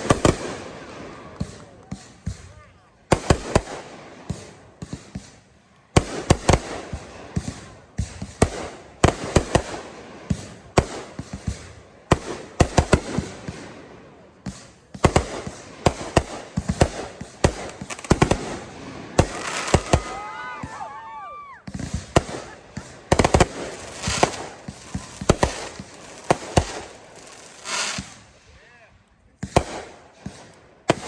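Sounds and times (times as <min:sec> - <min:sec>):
fireworks bursting with crackle: 0:00.0 - 0:31.0.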